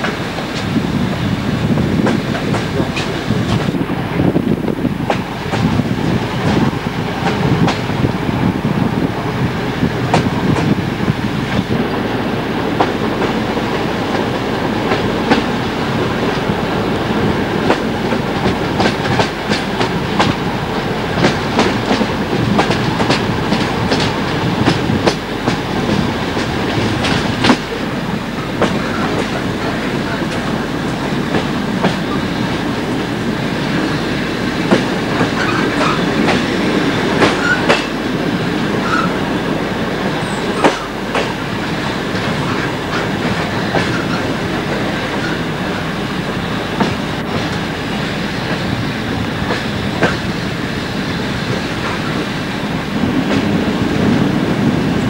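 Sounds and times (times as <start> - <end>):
train rumble and hiss: 0.0 - 55.0.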